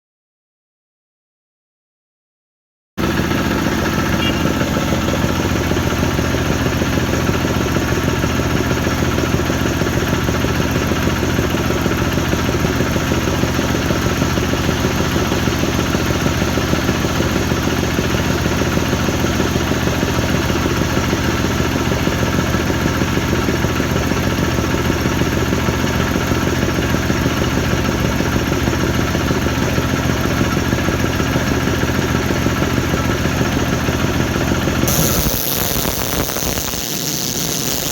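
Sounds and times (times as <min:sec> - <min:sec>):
diesel engine driving air compressor: 0:03.0 - 0:37.9.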